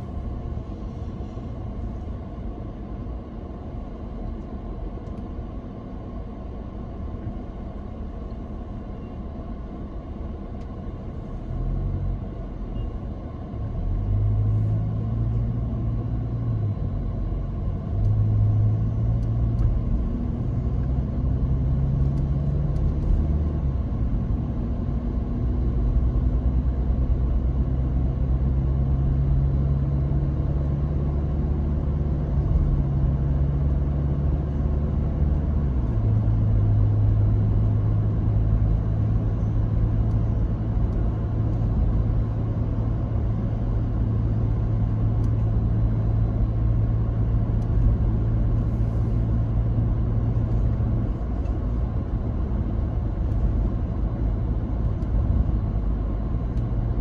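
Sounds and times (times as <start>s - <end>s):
car engine hum: 0.0s - 57.0s.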